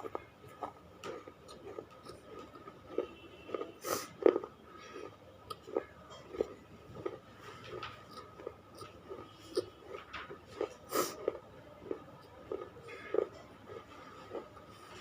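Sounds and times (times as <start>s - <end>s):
chewing crunchy chips: 0.0s - 15.0s.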